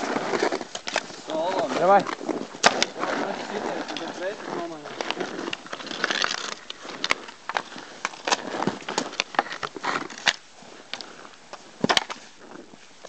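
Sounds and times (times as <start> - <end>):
hockey sticks clacking on puck: 0.0 - 11.1
scraping on ice: 0.0 - 12.7.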